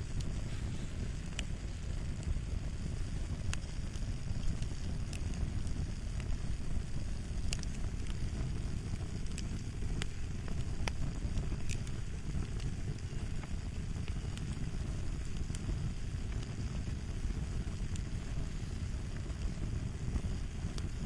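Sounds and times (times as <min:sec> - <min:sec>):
fire low rumble: 0:00.0 - 0:21.0
fire popping: 0:00.0 - 0:21.0.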